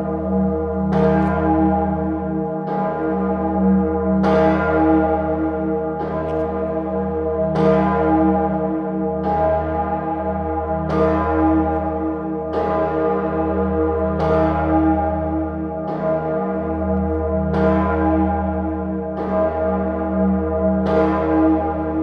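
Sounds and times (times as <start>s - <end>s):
large bell ringing: 0.0s - 22.0s.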